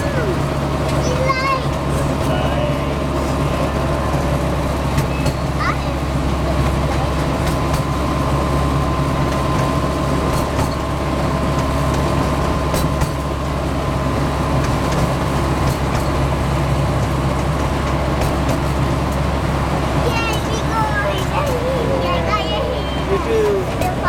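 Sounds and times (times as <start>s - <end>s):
ride train engine hum: 0.0s - 24.0s.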